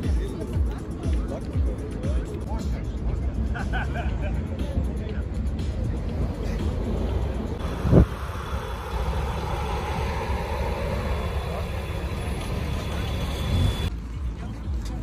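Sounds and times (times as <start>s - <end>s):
coach engine idling: 0.0s - 13.9s.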